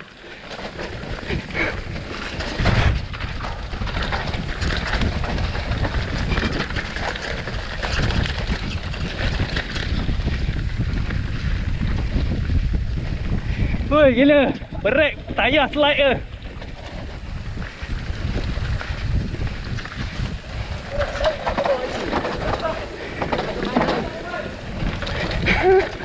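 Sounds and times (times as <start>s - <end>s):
bike clattering over bumps: 0.0s - 26.0s
tyres rumbling on dirt: 0.0s - 26.0s
wind buffeting the microphone: 0.0s - 26.0s.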